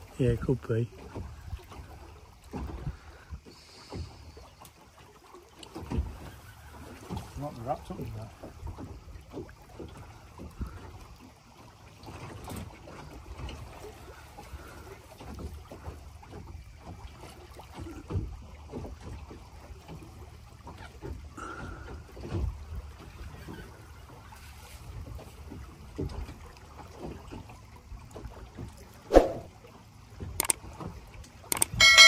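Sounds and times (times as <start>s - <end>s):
water slapping boat hull: 0.0s - 32.0s.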